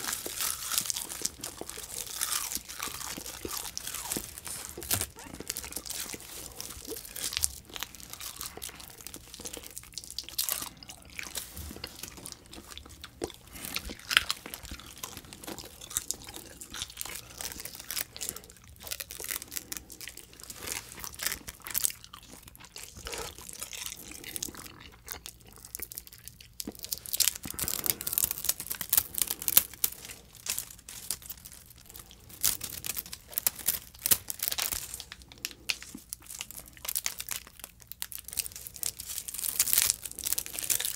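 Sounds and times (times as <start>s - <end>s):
candy tape crinkling and tearing: 0.0s - 40.9s
crunching and chewing: 0.0s - 40.9s.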